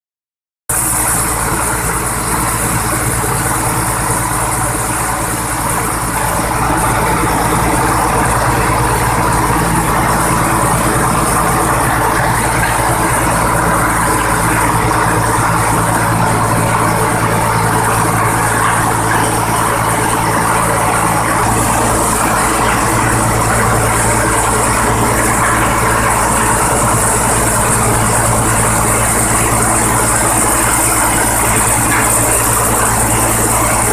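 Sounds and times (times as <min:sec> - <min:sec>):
rice milling machine running: 0:00.7 - 0:33.9.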